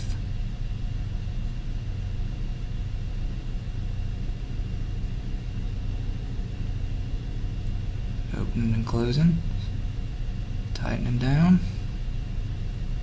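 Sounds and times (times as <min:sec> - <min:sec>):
faint high whine: 0:00.0 - 0:13.0
machinery hum: 0:00.0 - 0:13.0.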